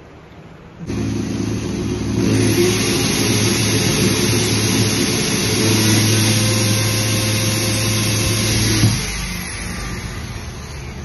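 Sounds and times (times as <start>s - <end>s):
power drill drilling: 0.9s - 11.0s.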